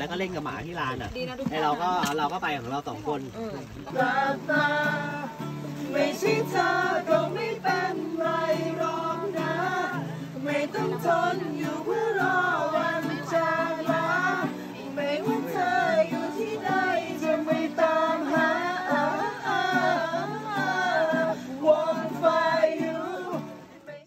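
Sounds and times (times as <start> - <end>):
song with singing voice: 3.8 - 24.0.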